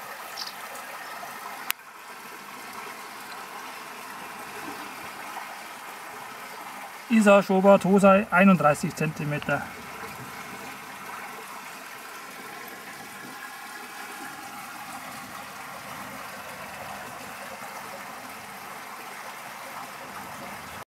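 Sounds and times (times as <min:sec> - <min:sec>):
running water: 0:00.0 - 0:20.8.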